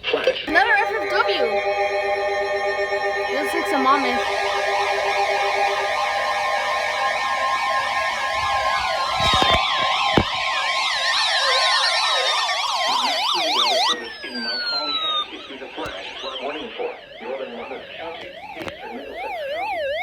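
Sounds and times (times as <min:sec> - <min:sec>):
electronic siren tones sweeping: 0:00.5 - 0:20.0
long falling tones: 0:00.5 - 0:20.0
steady alarm tone: 0:00.5 - 0:20.0.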